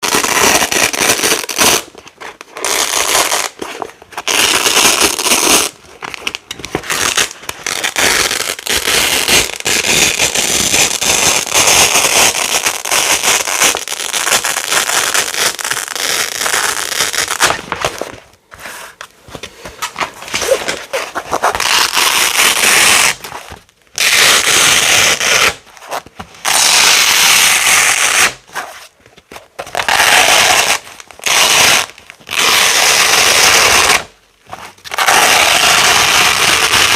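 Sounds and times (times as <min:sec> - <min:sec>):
velcro fastener ripping apart: 0:00.0 - 0:18.1, 0:19.9 - 0:28.7, 0:29.6 - 0:34.1, 0:34.8 - 0:36.9.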